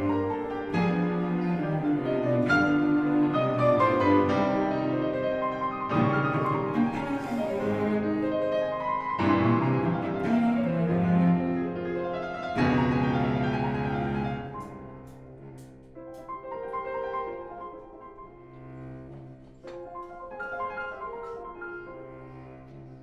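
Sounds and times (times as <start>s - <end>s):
slow piano and strings piece: 0.0s - 23.0s.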